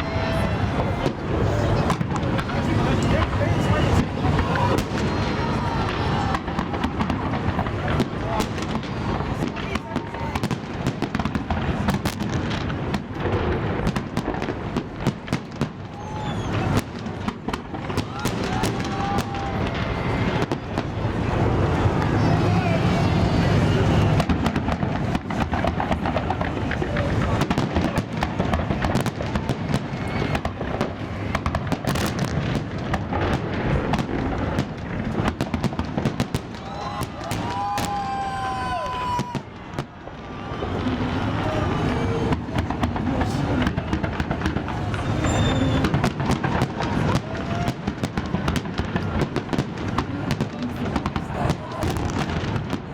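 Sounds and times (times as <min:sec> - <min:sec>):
fireworks bangs: 0:00.0 - 0:52.9.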